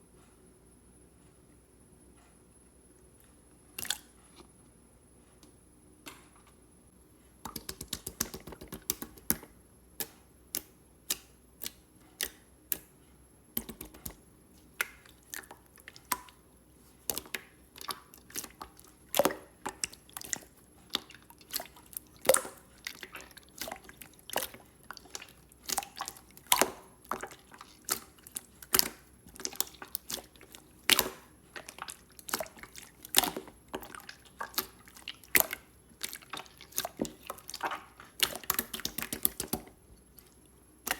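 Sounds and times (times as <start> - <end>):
slime squishing with clicks and pops: 7.4 - 40.9.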